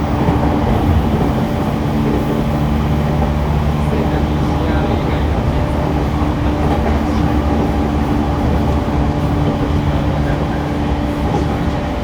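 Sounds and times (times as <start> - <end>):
train motor hum: 0.0 - 12.0
train wheels rumbling on rail: 0.0 - 12.0.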